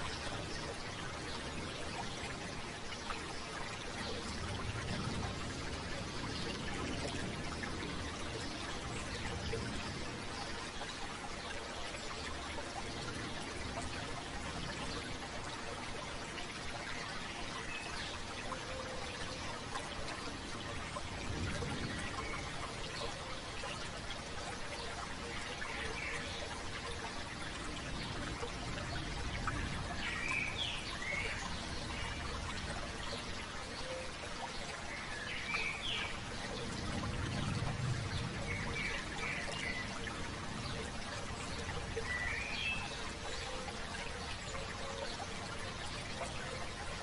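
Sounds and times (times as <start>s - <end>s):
stream babbling: 0.0s - 47.0s.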